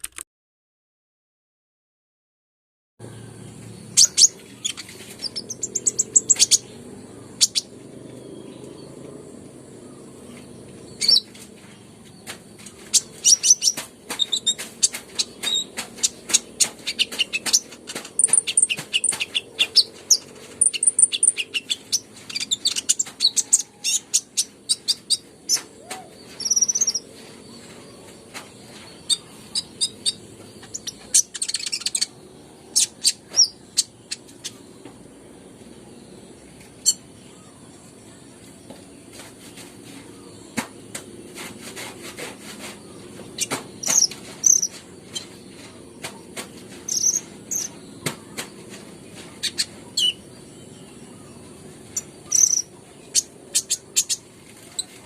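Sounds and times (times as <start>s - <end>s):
bird chirping: 3.0s - 41.4s, 42.4s - 55.0s.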